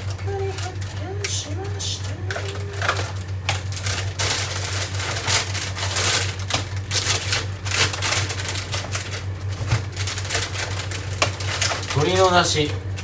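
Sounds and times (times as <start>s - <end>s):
kitchen containers clattering: 0.0s - 13.0s
steady low hum: 0.0s - 13.0s.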